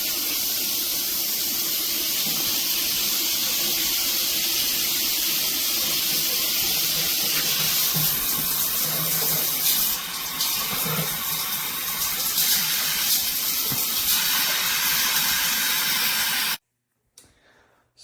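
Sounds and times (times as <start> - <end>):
water spraying from shower head: 0.0 - 16.6.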